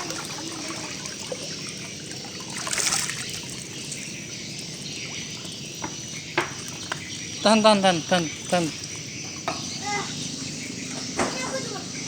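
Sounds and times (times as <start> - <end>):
high insect trill: 0.0 - 12.0
water trickling and splashing: 0.0 - 12.0.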